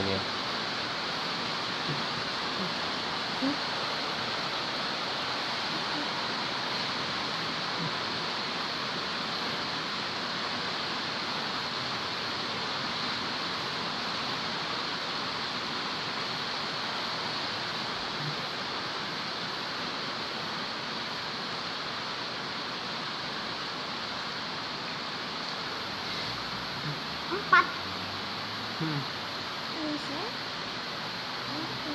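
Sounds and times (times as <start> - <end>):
steady background hiss: 0.0 - 31.9.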